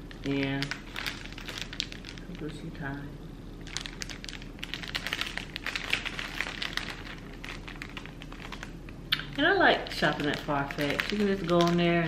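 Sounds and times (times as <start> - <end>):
plastic packaging crinkling: 0.0 - 2.8, 3.6 - 12.0.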